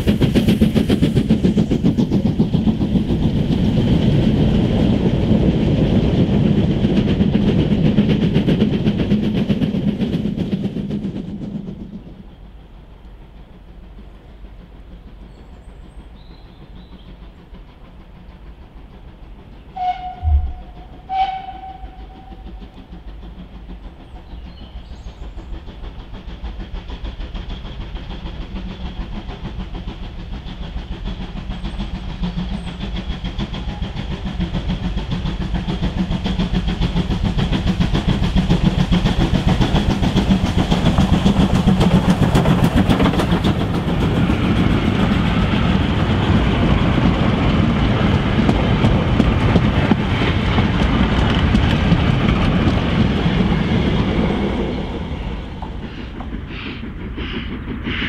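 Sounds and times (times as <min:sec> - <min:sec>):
steam locomotive: 0:00.0 - 0:58.0.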